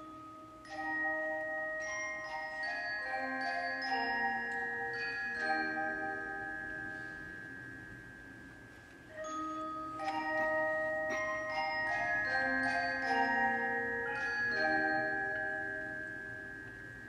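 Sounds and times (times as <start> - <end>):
glockenspiel melody: 0.0 - 17.0.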